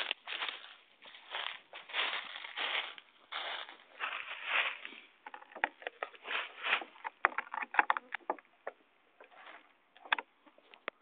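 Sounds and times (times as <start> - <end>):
plastic bottle crinkling: 0.0 - 11.0.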